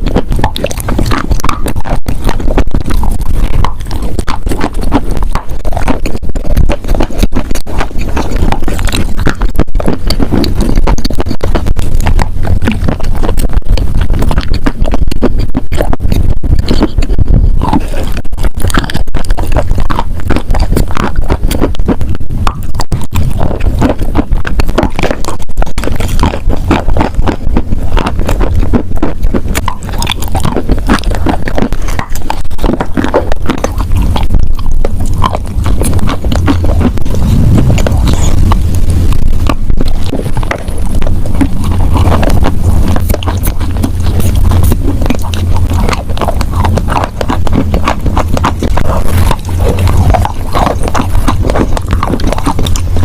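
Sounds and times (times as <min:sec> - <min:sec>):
chewing with soft crunches: 0:00.0 - 0:53.0.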